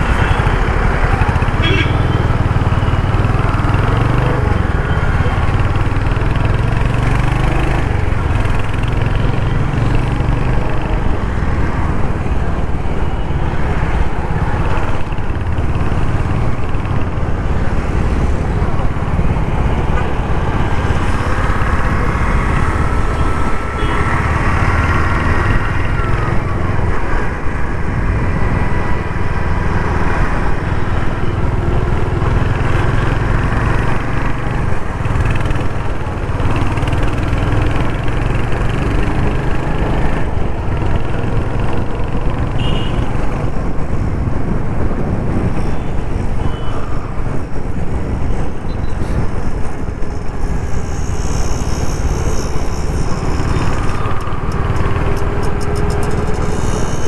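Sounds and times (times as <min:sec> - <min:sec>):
motorcycle engine running: 0:00.0 - 0:45.1, 0:47.8 - 0:57.0
city traffic: 0:00.0 - 0:57.0.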